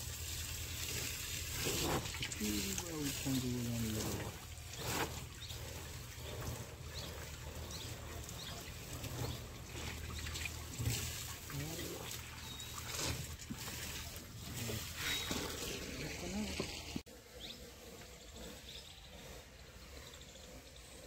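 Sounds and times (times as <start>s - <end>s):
water trickling and splashing: 0.0s - 18.4s.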